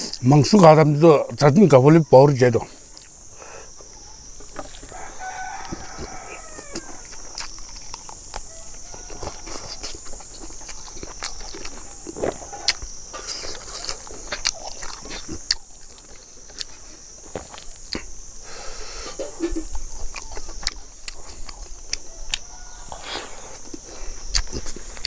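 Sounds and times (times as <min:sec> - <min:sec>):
man chewing and smacking lips: 0:02.8 - 0:03.2, 0:03.9 - 0:18.3, 0:19.1 - 0:25.0.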